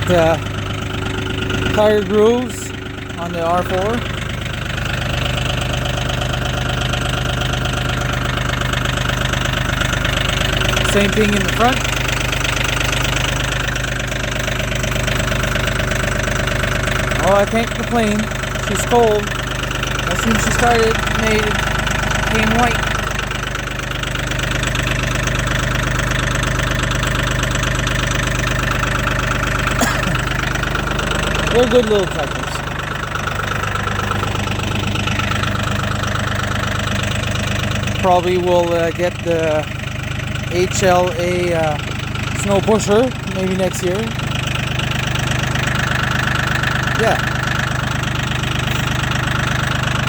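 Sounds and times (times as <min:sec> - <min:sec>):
tractor diesel engine idling: 0:00.0 - 0:50.0.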